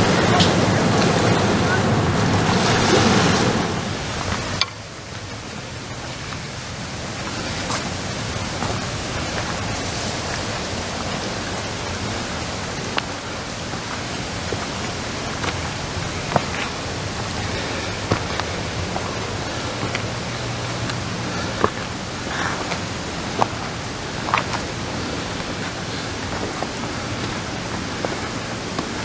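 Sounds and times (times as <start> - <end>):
river rapids rushing: 0.0 - 29.0.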